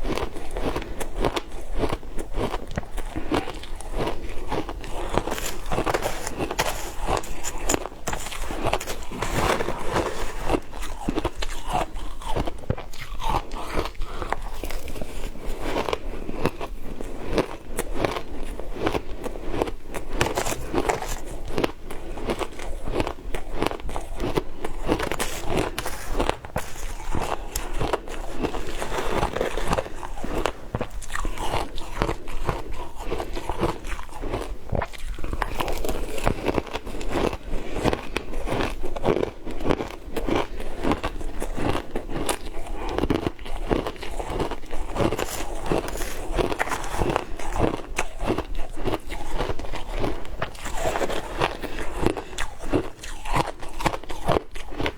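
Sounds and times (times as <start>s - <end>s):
ice crunching between teeth: 0.0s - 54.9s.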